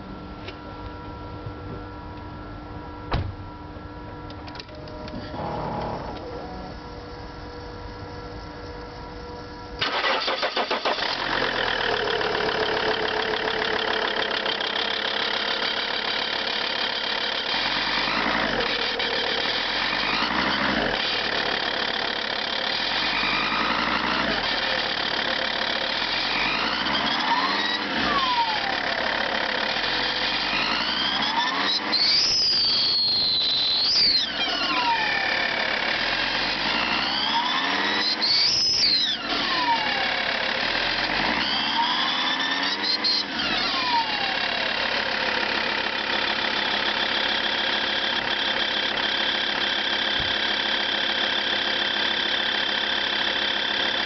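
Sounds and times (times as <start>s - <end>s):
diesel engine starting: 4.6s - 8.5s, 9.1s - 54.0s.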